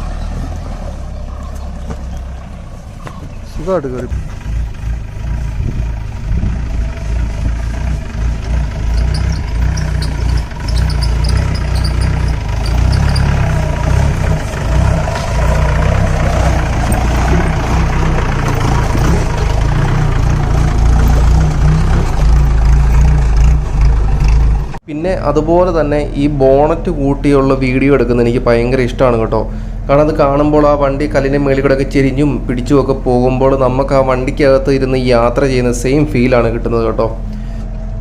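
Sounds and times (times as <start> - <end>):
jeep engine running: 0.0 - 38.0.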